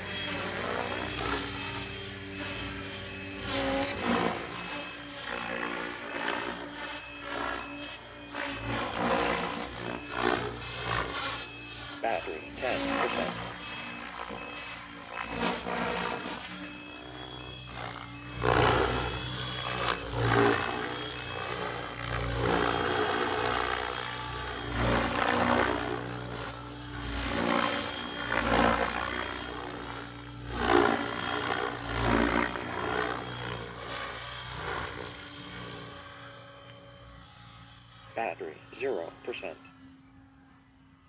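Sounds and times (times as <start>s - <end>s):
high beeping: 0.0s - 41.0s
rc helicopter rotor and motor: 0.0s - 41.0s.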